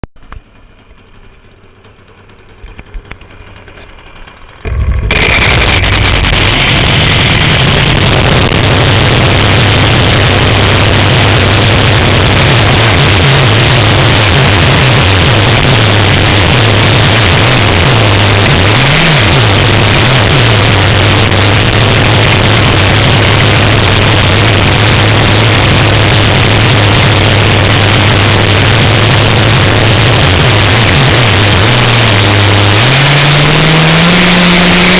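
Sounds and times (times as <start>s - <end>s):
engine starting and running: 0.0s - 34.9s.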